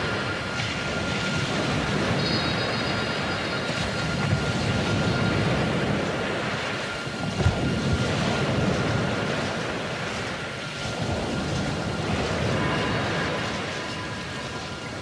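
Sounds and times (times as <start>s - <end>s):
surf rushing: 0.0s - 15.0s
wind: 0.0s - 15.0s.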